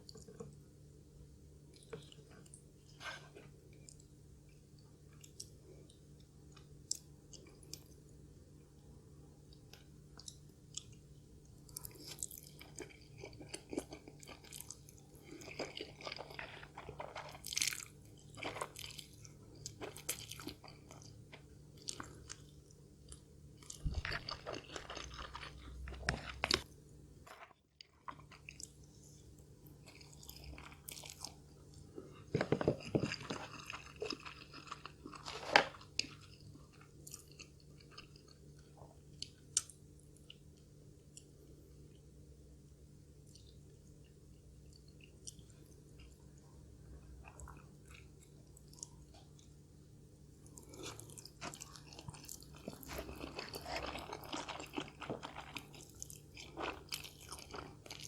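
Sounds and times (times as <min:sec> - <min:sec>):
chewing and crunching noodles: 0:01.7 - 0:08.7, 0:09.4 - 0:42.2, 0:42.9 - 0:58.0.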